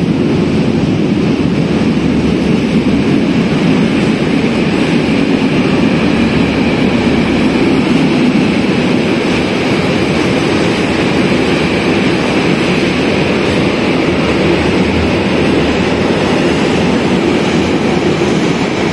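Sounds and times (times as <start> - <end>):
freight train wheels rumbling on rail: 0.0 - 18.9.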